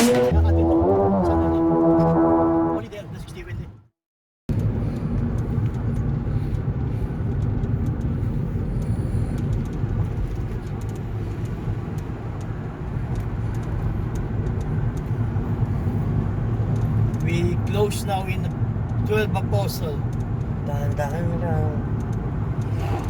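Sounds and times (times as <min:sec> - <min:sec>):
car interior road rumble: 0:04.5 - 0:23.0.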